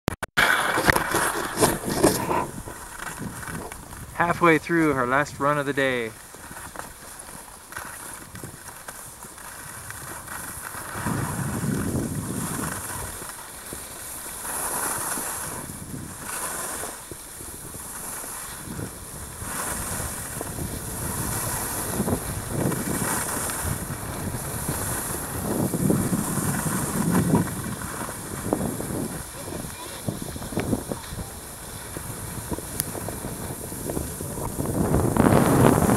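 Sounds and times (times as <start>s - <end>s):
skis hissing on packed snow: 0.4s - 35.9s
wind rushing over microphone: 0.5s - 6.0s, 9.6s - 13.8s, 14.9s - 35.9s.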